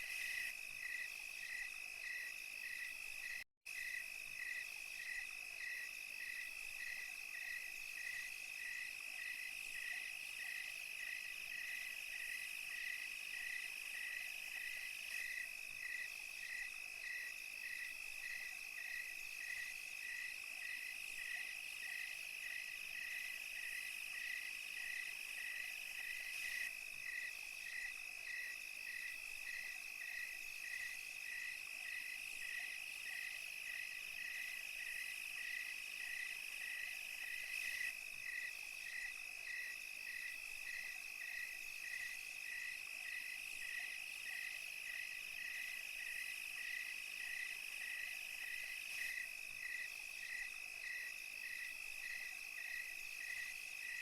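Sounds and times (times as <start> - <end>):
crickets trilling: 0.0 - 54.0
hiss of insect calls: 0.0 - 54.0
insect chirp: 0.0 - 54.0.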